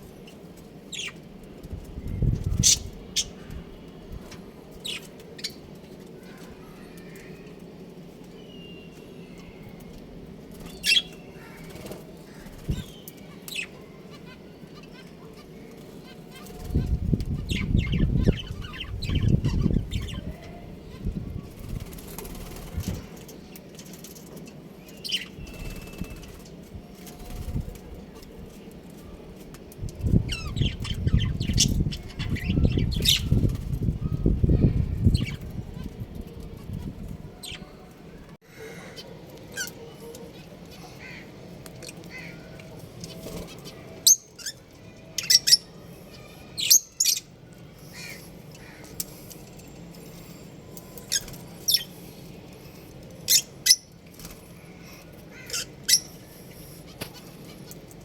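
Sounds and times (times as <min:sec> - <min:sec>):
wings fluttering and rustling: 0:00.0 - 0:38.4, 0:39.1 - 0:58.0.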